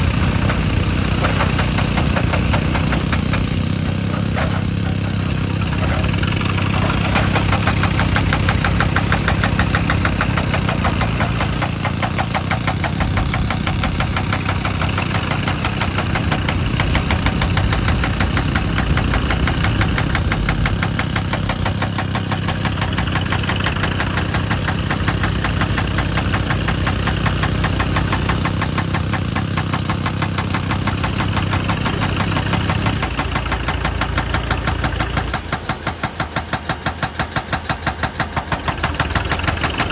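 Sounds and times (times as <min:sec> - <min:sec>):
diesel engine running: 0:00.0 - 0:39.9
hydraulic breaker hammering rock: 0:00.0 - 0:39.9.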